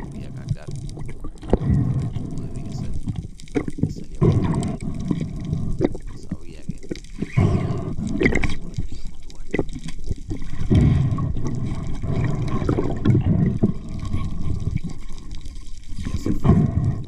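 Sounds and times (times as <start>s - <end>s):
underwater water rush: 0.0s - 17.0s.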